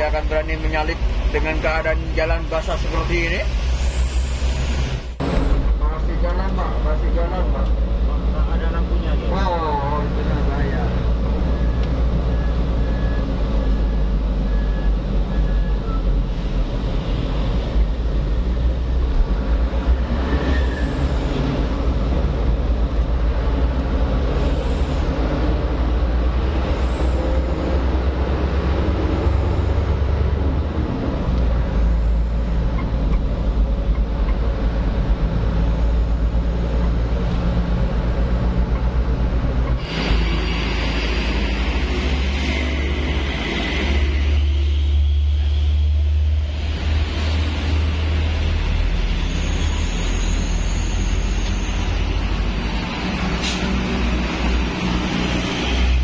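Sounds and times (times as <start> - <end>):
road noise: 0.0 - 56.0
truck engine rumbling: 0.0 - 56.0.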